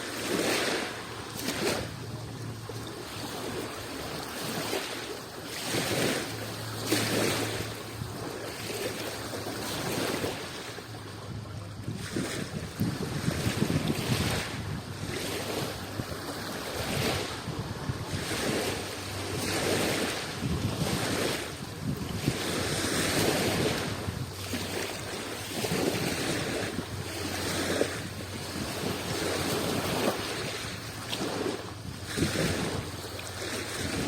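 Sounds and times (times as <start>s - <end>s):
sea waves breaking: 0.0s - 34.0s.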